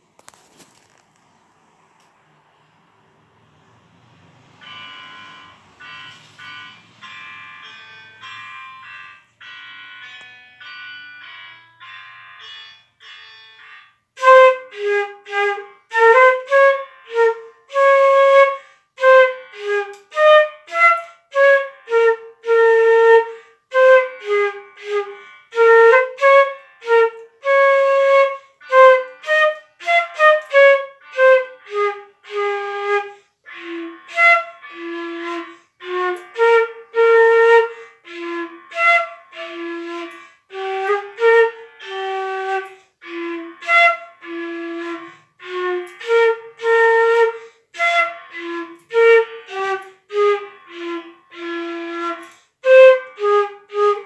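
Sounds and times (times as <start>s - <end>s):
solo flute tune: 4.3s - 9.1s, 14.2s - 54.0s.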